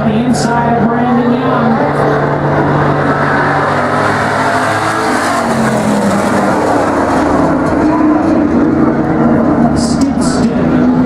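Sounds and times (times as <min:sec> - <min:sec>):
truck engines racing past: 0:00.0 - 0:11.0.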